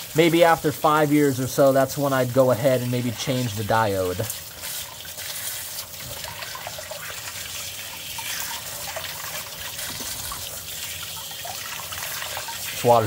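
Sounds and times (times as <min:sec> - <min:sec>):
water running from a hose: 0:00.0 - 0:13.0
water splashing into a pit: 0:02.3 - 0:13.0.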